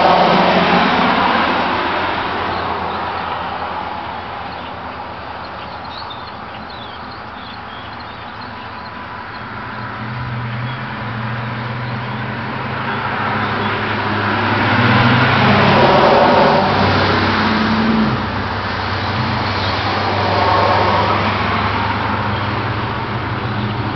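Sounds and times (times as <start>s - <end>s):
pickup truck driving by: 0.0s - 23.9s.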